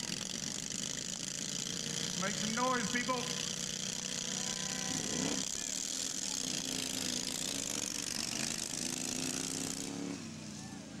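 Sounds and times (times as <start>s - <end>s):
lawn tractor engines racing: 0.0s - 11.0s.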